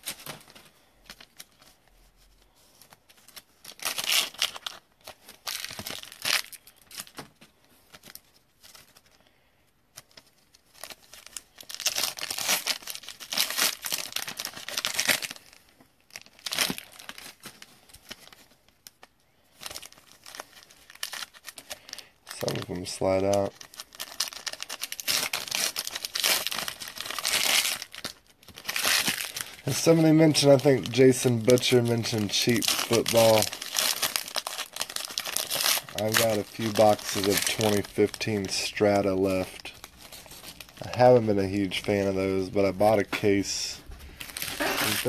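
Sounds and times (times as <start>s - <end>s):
foil wrappers crinkling and tearing: 0.0s - 9.3s, 9.9s - 45.0s.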